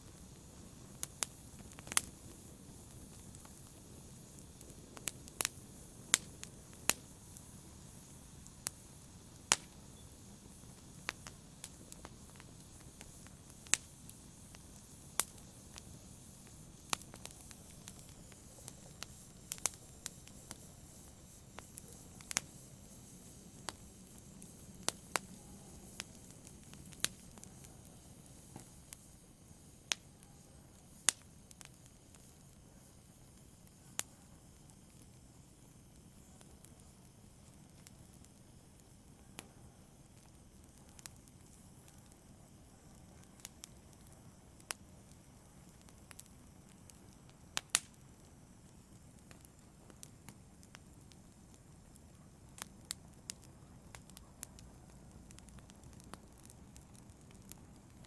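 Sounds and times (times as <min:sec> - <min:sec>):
faint low hiss: 0:00.0 - 0:58.0
wood fire crackling and popping: 0:00.0 - 0:58.0.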